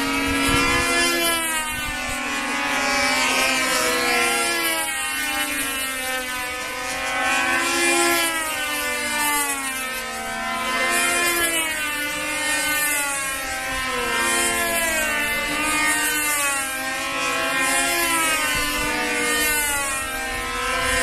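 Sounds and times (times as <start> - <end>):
model airplane engine running: 0.0 - 21.0.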